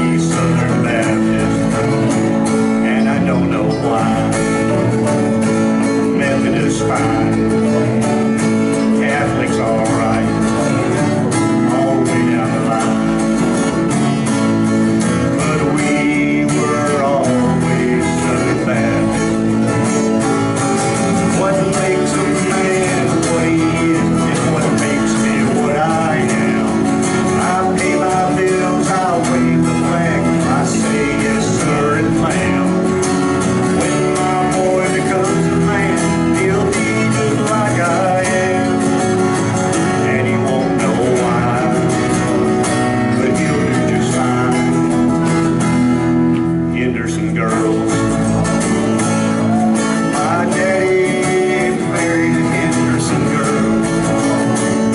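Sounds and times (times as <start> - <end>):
electric guitars: 0.0 - 54.9
strummed acoustic guitar: 0.0 - 54.9.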